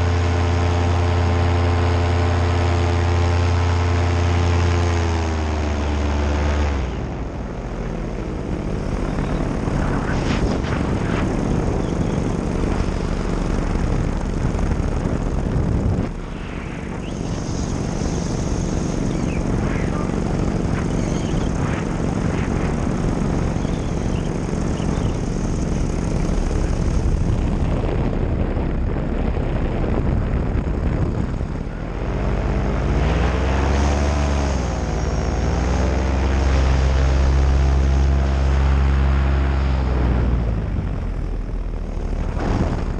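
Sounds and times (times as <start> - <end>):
paramotor engine and propeller: 0.0 - 42.9.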